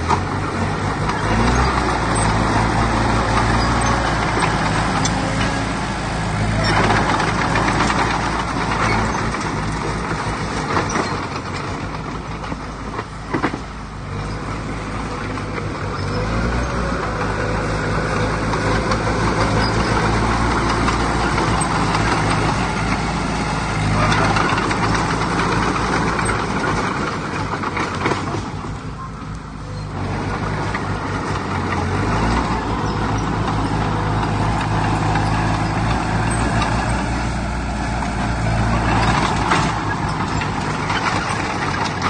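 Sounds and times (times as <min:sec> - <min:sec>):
diesel machinery engine drone: 0:00.0 - 0:42.0.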